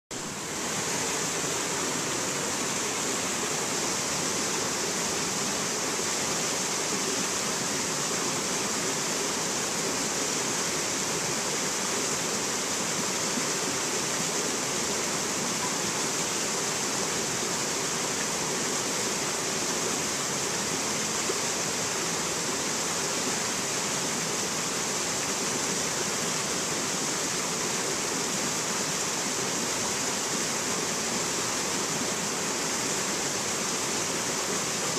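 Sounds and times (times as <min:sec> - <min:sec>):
stream rushing over boulders: 0:00.1 - 0:34.9.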